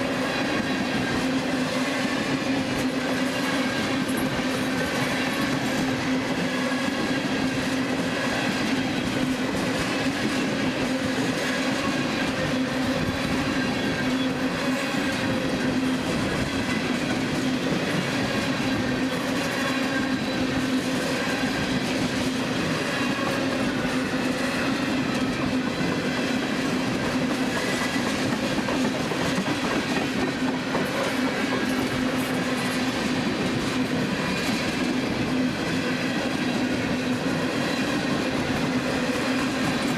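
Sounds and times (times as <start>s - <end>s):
train wheels clacking over rail joints: 0.4s - 39.9s.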